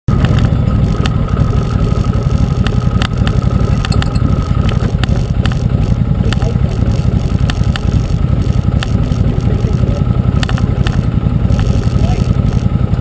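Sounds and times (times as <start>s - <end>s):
engine low rumble: 0.1s - 13.0s
sharp clicks and rattles: 0.1s - 13.0s.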